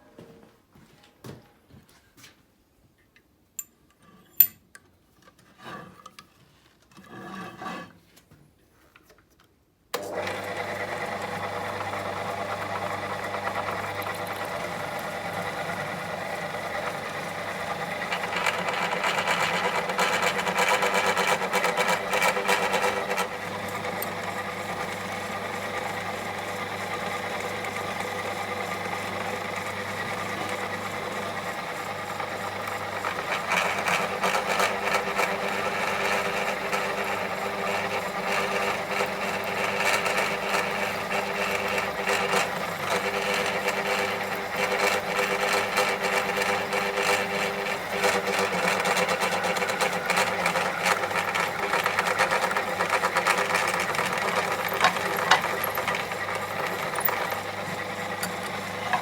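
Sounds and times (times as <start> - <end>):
electric drill running: 10.0 - 59.0.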